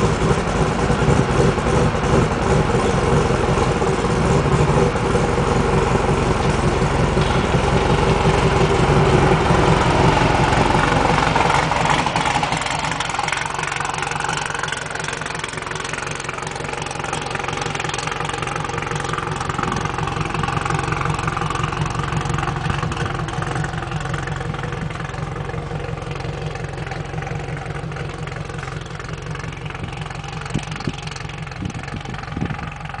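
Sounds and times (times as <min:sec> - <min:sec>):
truck engine pulling away: 0:00.0 - 0:33.0.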